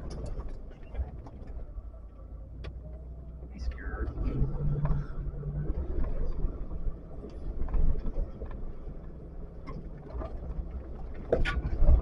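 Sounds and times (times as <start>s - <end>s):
vehicle engine running slowly: 0.0s - 12.0s.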